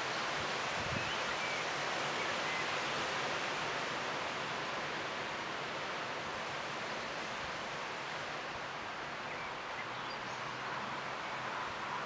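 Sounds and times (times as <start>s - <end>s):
wind rustling tree leaves: 0.0s - 12.0s.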